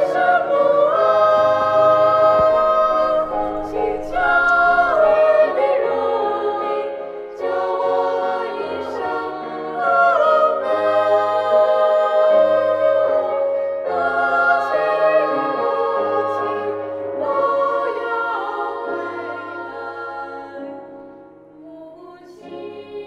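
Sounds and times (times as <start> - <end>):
choir singing slow song: 0.0 - 23.0.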